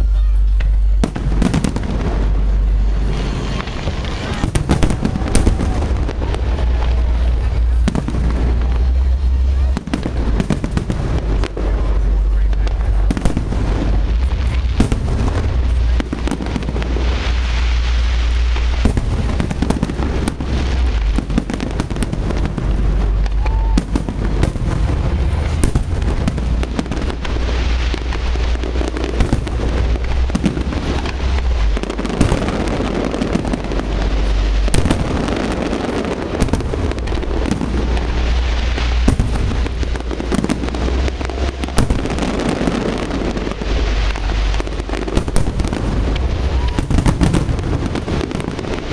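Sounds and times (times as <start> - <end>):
deep booming rumble: 0.0 - 48.9
fireworks bangs and crackling: 0.0 - 48.9.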